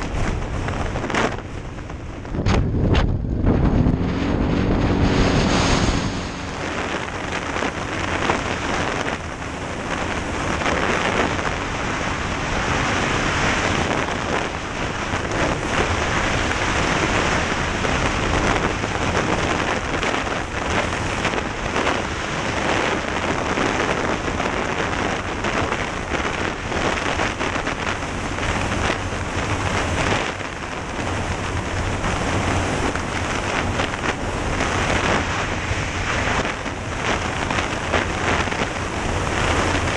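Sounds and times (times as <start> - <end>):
vehicle engine: 0.0 - 39.9
wind buffeting microphone: 0.0 - 39.9.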